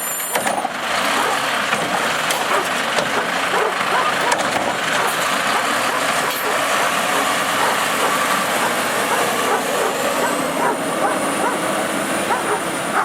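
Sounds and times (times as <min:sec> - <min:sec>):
garbage truck running: 0:00.0 - 0:13.0.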